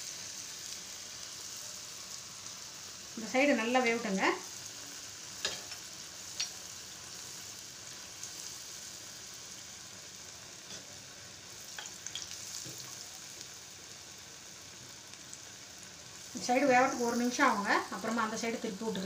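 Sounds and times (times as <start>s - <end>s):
batter sizzling in hot oil: 0.0s - 19.0s.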